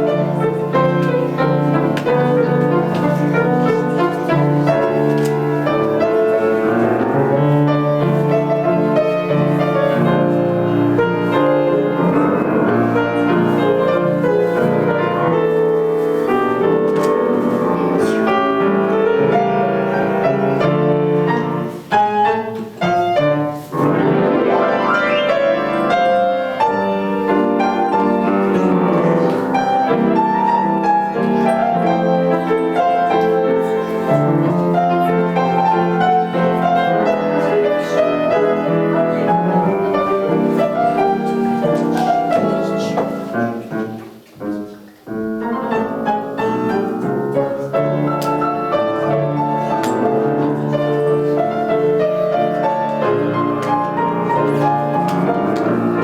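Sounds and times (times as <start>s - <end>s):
piano duet playing tango: 0.0s - 56.0s.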